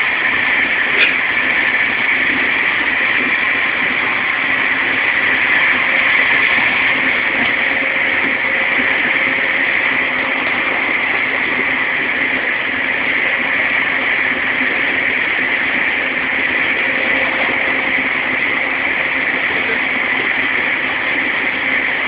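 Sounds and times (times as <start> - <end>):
electric train running: 0.0 - 22.0
faint hum: 0.0 - 22.0.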